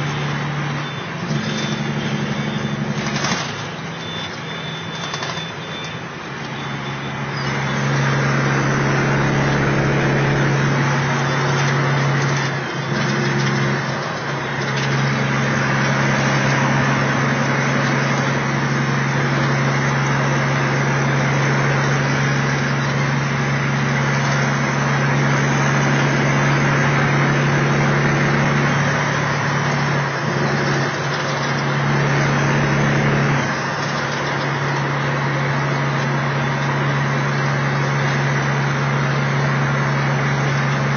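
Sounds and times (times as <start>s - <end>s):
diesel engine droning: 0.0s - 40.9s
tyre and road noise: 0.0s - 40.9s.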